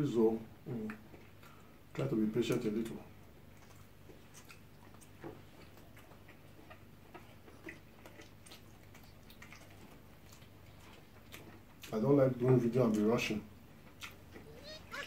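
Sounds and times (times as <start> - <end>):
low room hum: 0.0 - 15.0
chewing and lip smacks: 0.8 - 15.0.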